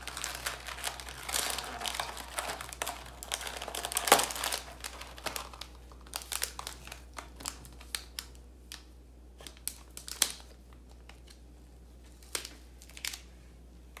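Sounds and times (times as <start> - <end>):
foil sachets crinkling: 0.0 - 8.8, 9.4 - 11.4, 12.1 - 13.3.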